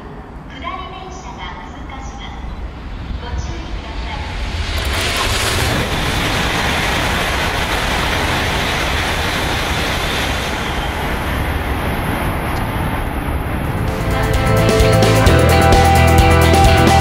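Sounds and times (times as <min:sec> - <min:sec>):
high speed train rushing past: 0:00.0 - 0:16.8.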